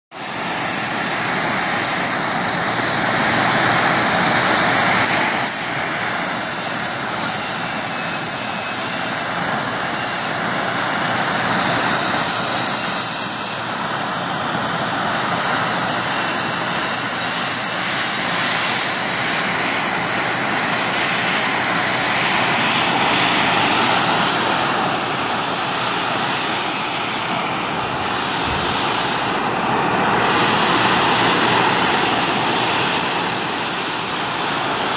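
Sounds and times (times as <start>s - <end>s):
gas torch flame hissing: 0.2s - 34.9s.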